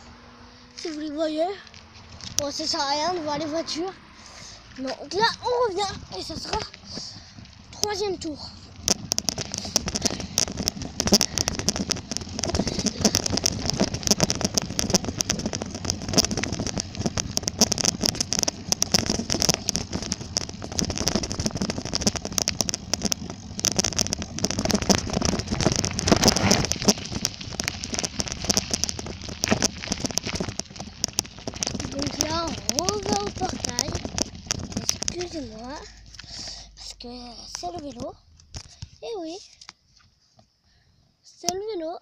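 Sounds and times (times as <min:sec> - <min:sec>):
bicycle rattling and clicking: 0:00.7 - 0:39.8.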